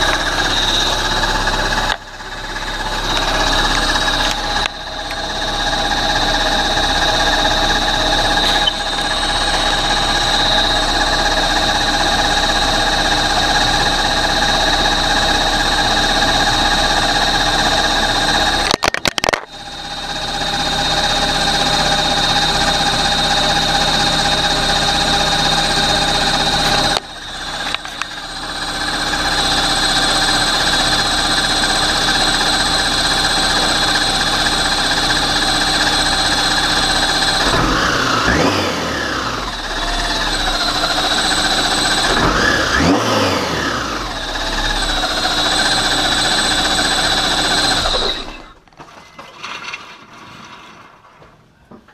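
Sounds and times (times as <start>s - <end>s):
car engine idling: 0.0s - 48.6s
engine revving: 0.0s - 48.6s.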